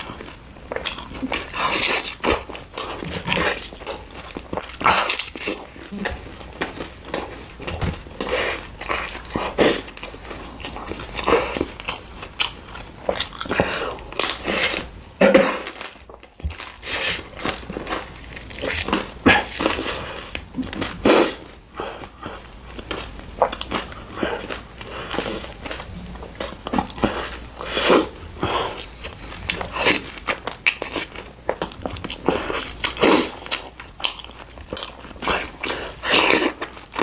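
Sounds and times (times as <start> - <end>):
person biting and chewing food: 0.0 - 37.0.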